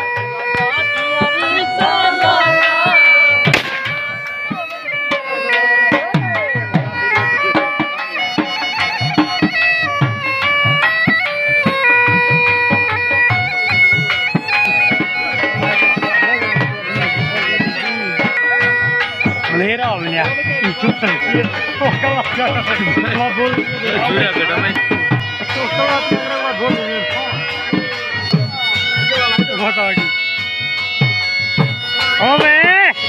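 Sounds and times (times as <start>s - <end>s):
bagpipe playing folk melody: 0.0s - 33.0s
dhol drums beating: 0.0s - 33.0s.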